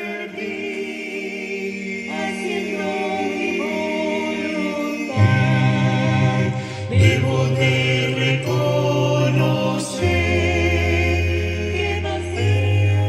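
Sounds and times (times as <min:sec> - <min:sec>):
voices singing worship song: 0:00.0 - 0:13.0.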